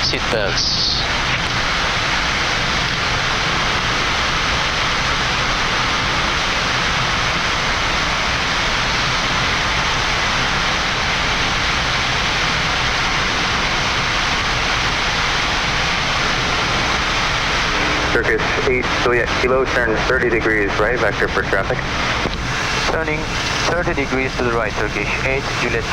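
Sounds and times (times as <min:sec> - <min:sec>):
airflow rushing past cockpit: 0:00.0 - 0:25.9.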